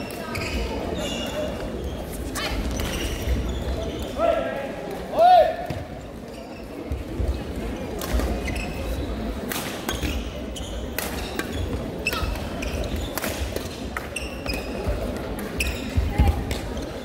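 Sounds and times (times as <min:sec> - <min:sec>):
shoes squeaking on court: 0:00.0 - 0:04.2, 0:05.7 - 0:17.0
sports hall background noise: 0:00.0 - 0:17.0.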